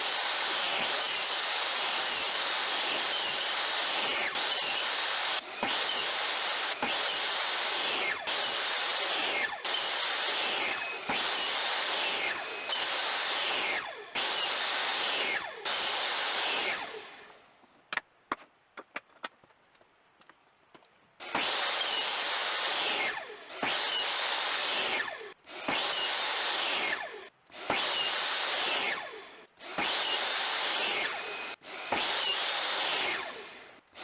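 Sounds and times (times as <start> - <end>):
tool working wood in strokes: 0.0 - 17.4, 21.2 - 34.0.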